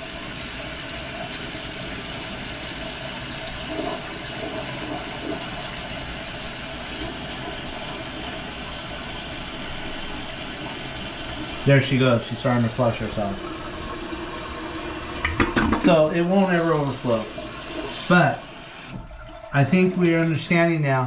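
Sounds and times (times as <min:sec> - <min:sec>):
water running into toilet tank: 0:00.0 - 0:20.7.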